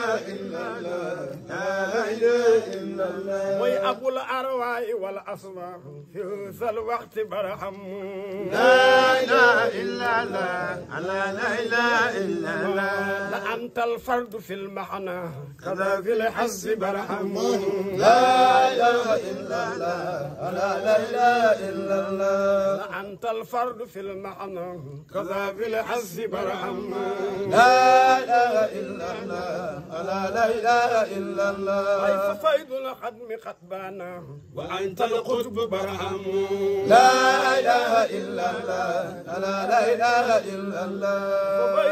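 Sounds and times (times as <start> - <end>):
man chanting: 0.0 - 41.9.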